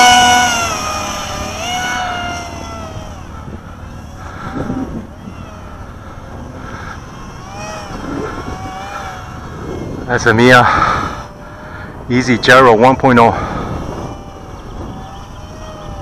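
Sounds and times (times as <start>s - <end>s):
motor and propeller whining: 0.0s - 16.0s
wind buffeting microphone: 0.0s - 16.0s.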